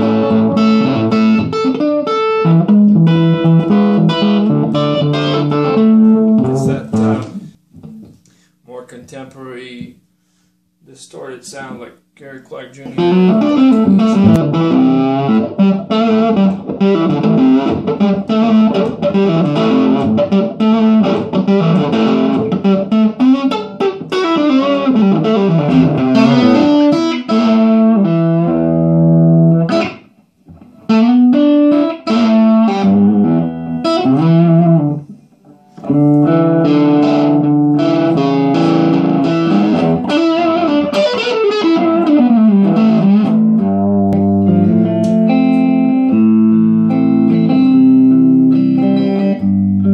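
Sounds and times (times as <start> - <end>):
distorted electric guitar: 0.0 - 8.2, 12.8 - 49.9.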